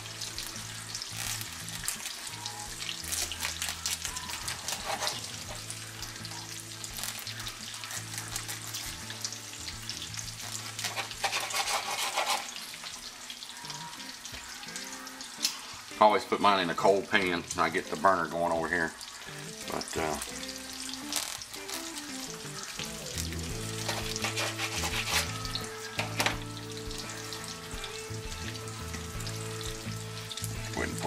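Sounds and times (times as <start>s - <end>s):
bacon sizzling in a pan: 0.0s - 31.0s.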